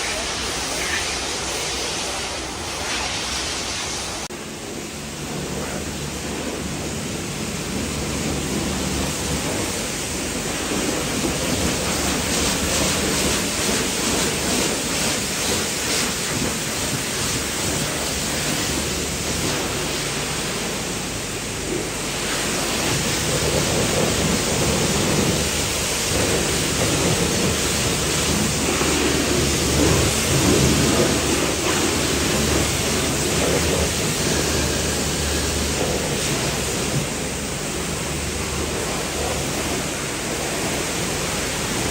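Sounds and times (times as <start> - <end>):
pressure washer spraying water: 0.0 - 41.9.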